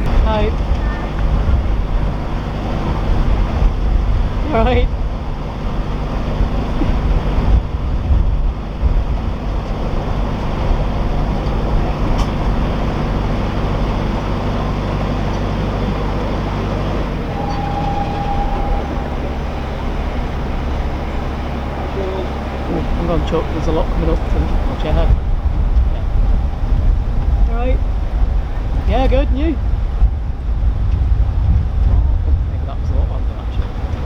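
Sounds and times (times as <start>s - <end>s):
diesel engine running at low revs: 0.0s - 34.0s.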